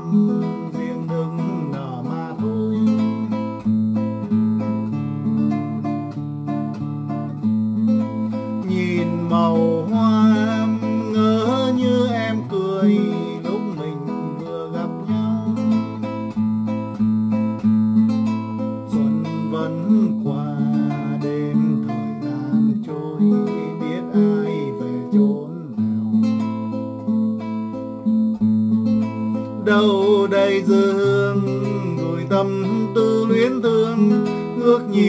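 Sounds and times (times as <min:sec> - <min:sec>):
fingerstyle classical guitar: 0:00.0 - 0:35.0.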